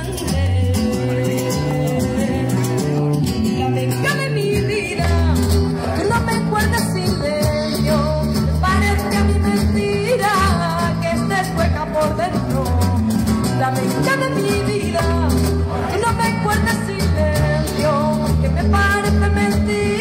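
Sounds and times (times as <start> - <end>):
acoustic guitar: 0.0 - 20.0
bass: 0.0 - 20.0
person singing flamenco-style: 0.0 - 20.0.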